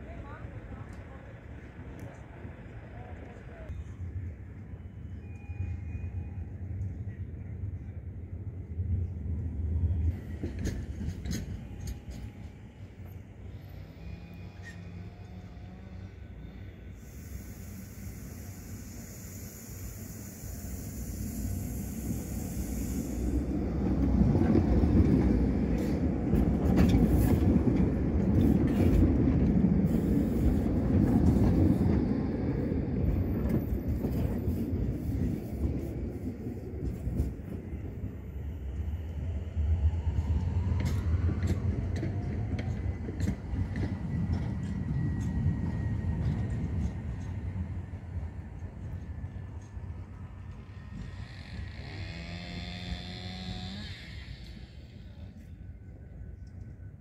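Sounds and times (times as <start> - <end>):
electric tram rumbling past: 0.0 - 57.0.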